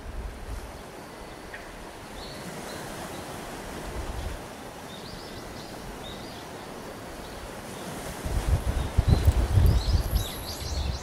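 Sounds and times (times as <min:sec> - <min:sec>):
sea surf: 0:00.0 - 0:11.0.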